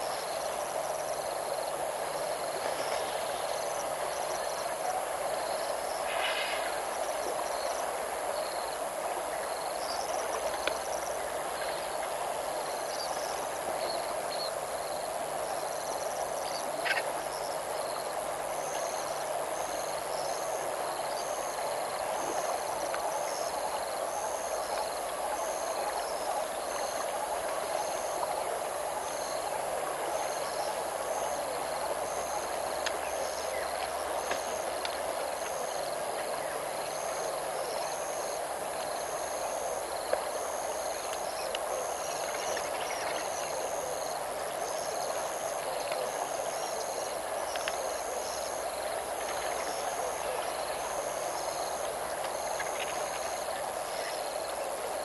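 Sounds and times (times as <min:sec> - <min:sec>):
frogs calling: 0:00.0 - 0:55.0
insects calling: 0:00.0 - 0:55.0.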